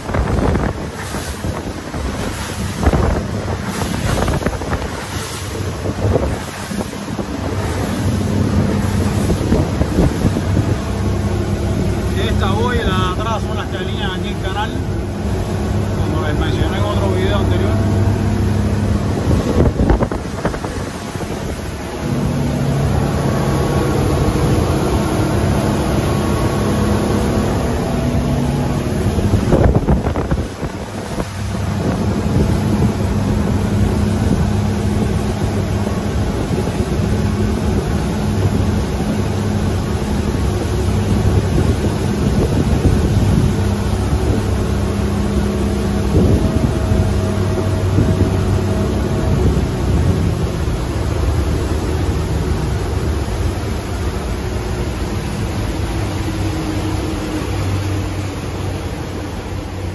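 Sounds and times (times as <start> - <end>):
motorboat engine droning: 0.0 - 59.9
wind buffeting microphone: 0.0 - 59.9.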